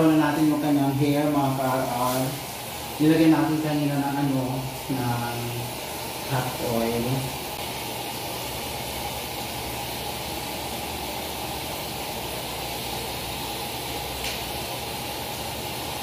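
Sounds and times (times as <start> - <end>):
hiss of rushing water: 0.0 - 16.0.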